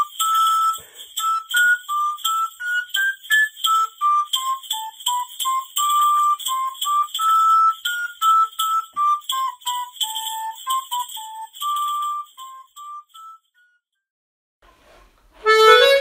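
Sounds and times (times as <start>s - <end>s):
high-pitched pipe playing tune: 0.0s - 13.6s, 15.4s - 16.0s.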